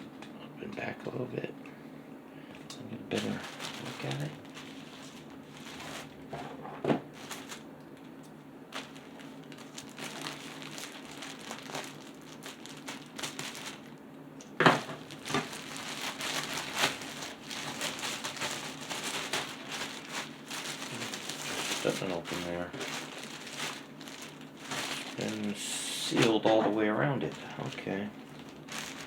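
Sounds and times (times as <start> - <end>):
package crinkling and crackling: 3.1 - 29.0.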